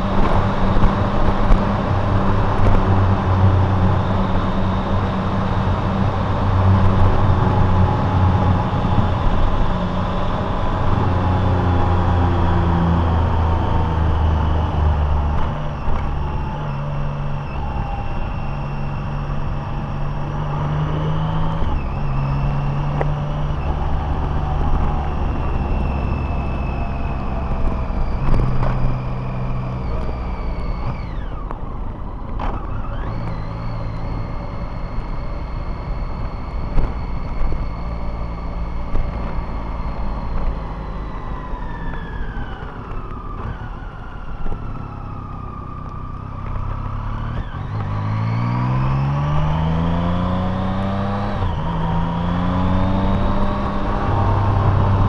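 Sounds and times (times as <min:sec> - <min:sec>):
high whine: 0:00.0 - 0:55.0
road noise: 0:00.0 - 0:55.0
vehicle engine: 0:00.0 - 0:55.0.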